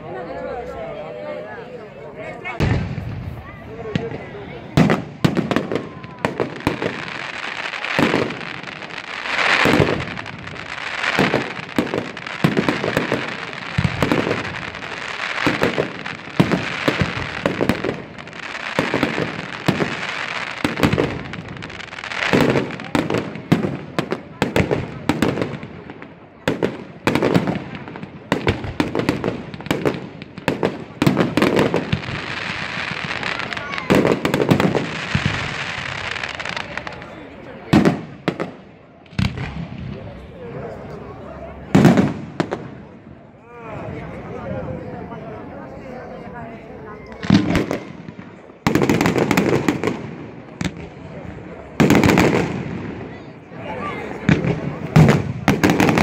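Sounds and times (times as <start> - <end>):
fireworks crackling and hissing: 2.3 - 56.0.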